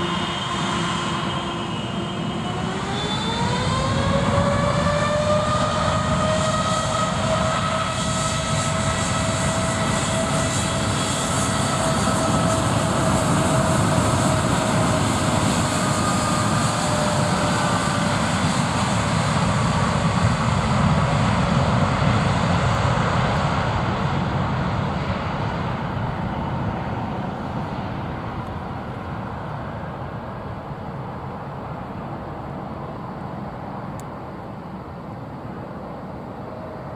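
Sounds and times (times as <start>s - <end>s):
airliner engines roaring: 0.0s - 36.9s
steady engine whine: 0.0s - 36.9s.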